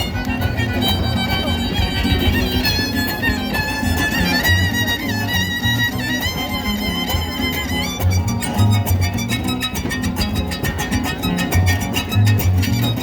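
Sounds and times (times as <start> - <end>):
guitars strumming: 0.0 - 13.0
violin melody: 0.0 - 13.0.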